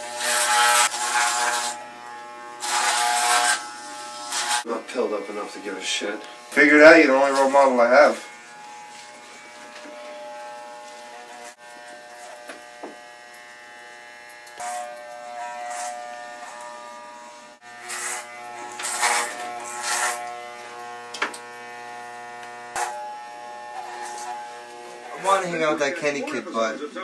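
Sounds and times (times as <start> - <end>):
electric hair clippers buzzing: 0.0 - 26.5.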